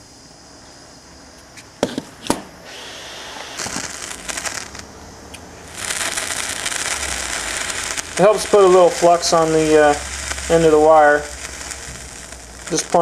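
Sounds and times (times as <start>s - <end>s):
gas torch flame hissing: 1.8s - 13.0s
sizzling crackle of hot joint: 1.9s - 13.0s.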